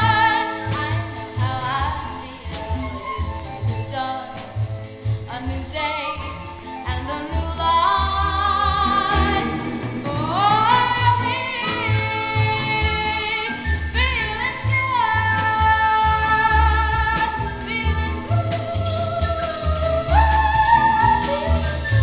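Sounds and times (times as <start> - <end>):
band with pulsing bass: 0.0 - 22.0.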